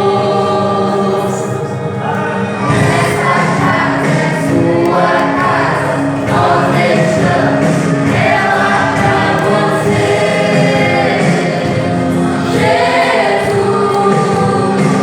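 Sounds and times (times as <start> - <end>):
group singing gospel song: 0.0 - 15.0.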